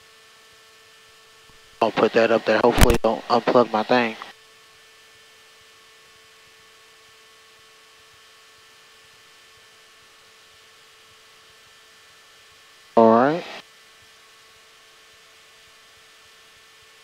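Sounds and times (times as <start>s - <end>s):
electrical hum and hiss: 0.1s - 17.0s.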